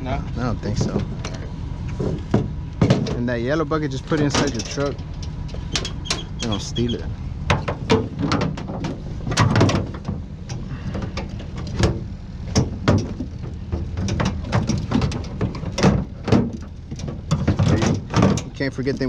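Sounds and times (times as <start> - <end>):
gear knocking and clunking: 0.0 - 19.0
low steady rumble: 0.0 - 19.0.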